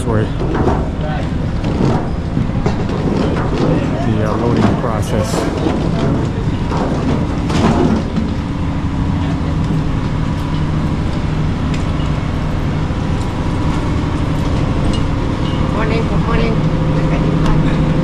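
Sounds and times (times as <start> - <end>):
diesel engines idling: 0.0 - 18.0.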